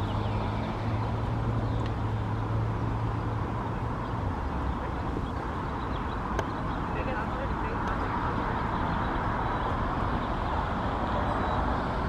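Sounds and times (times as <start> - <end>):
outdoor background noise: 0.0 - 12.0
vehicle engine idling hum: 0.0 - 12.0.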